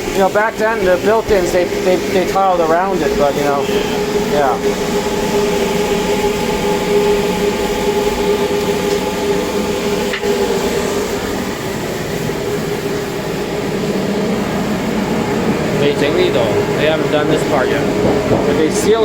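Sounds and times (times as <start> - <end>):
machine humming drone: 0.0 - 19.0.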